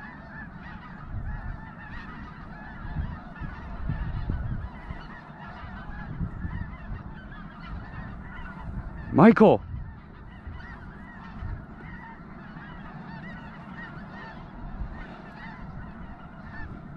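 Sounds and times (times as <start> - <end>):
flock of geese honking: 0.0 - 16.9.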